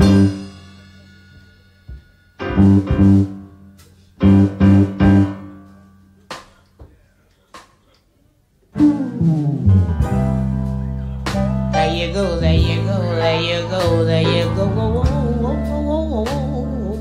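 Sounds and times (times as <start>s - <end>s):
band chord stabs with bass: 0.0s - 6.5s, 8.8s - 17.0s.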